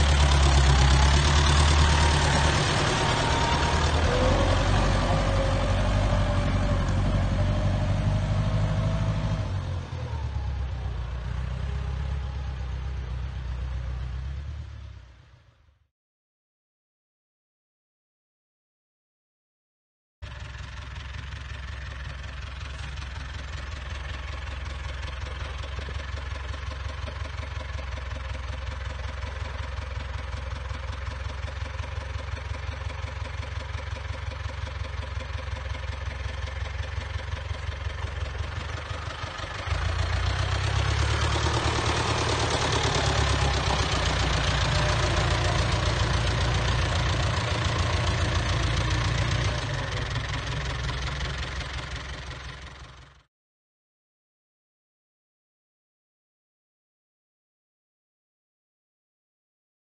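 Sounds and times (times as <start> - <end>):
tractor diesel engine running: 0.0 - 15.3, 20.2 - 53.2.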